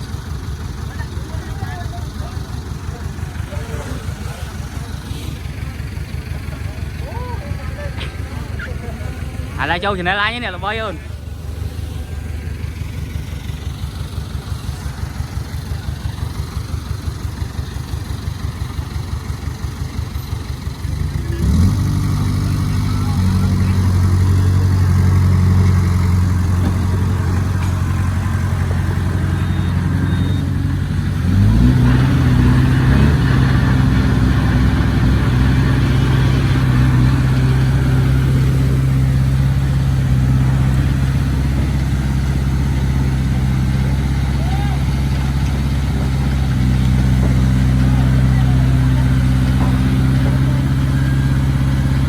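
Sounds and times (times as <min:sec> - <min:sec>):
diesel engine idling and revving: 0:00.0 - 0:52.0.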